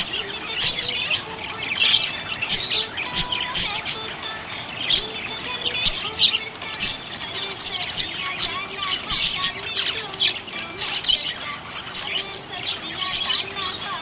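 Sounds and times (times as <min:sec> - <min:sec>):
budgerigar squawks: 0:00.0 - 0:14.0
budgerigars chirping and chattering: 0:00.0 - 0:14.0.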